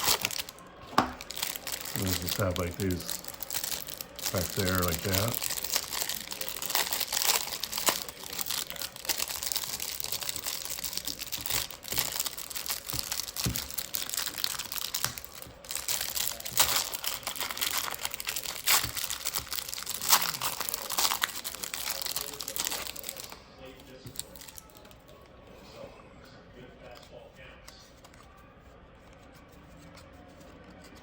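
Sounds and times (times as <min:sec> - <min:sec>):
packaging crinkling: 0:00.0 - 0:25.0.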